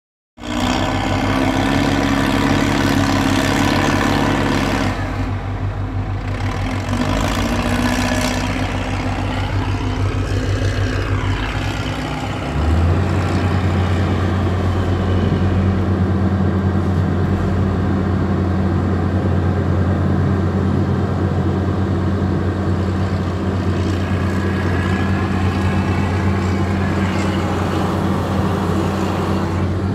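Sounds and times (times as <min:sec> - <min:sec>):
excavator diesel engine running: 0:00.4 - 0:29.9.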